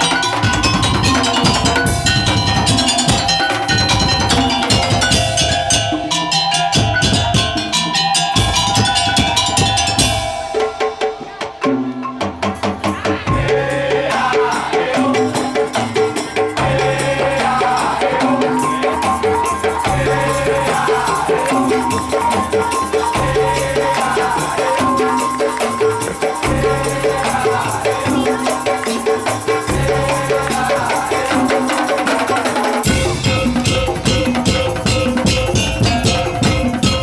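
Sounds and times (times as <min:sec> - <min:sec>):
percussion ensemble playing: 0:00.0 - 0:37.0.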